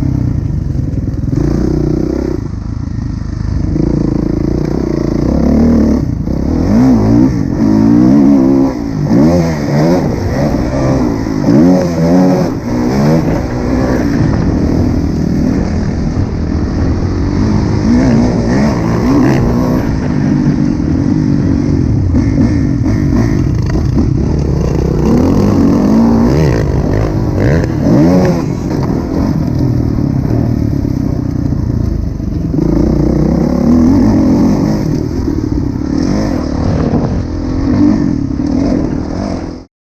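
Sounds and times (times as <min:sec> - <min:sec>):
motocross engine revving: 0:03.6 - 0:39.7.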